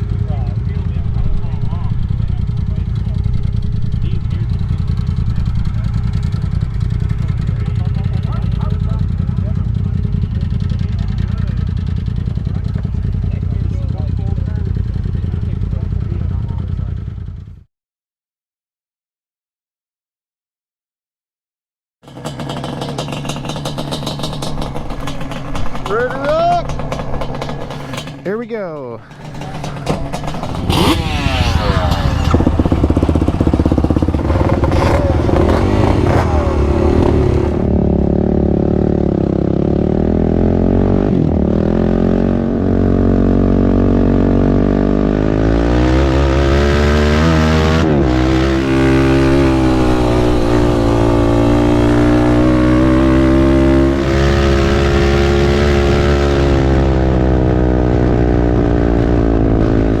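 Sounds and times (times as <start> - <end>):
quad engine revving: 0.0 - 16.6, 22.0 - 60.0.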